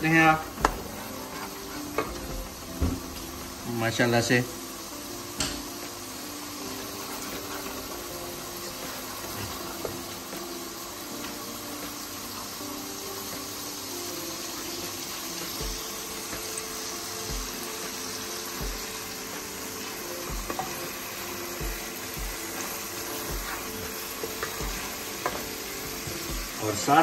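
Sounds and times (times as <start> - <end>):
sauce sizzling in oil: 0.0 - 27.0.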